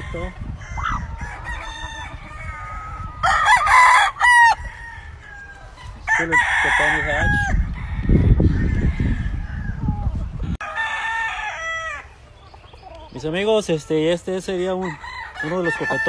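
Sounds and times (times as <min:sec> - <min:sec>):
rooster crowing: 0:00.0 - 0:10.0, 0:10.6 - 0:12.2, 0:14.6 - 0:16.0.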